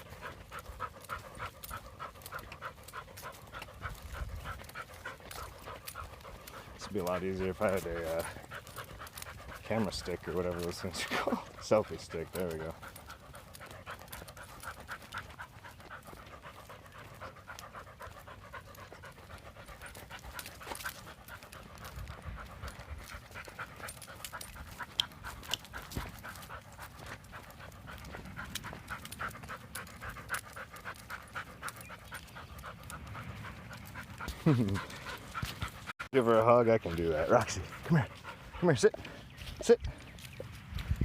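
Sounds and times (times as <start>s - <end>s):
dog panting hard: 0.0s - 41.0s.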